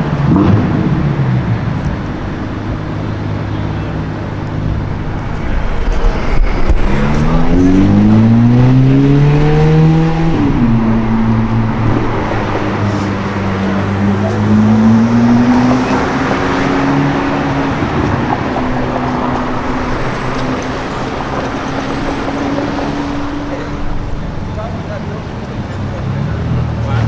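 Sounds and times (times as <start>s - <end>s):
sports car engine accelerating: 0.0s - 27.0s
street traffic noise: 0.0s - 27.0s.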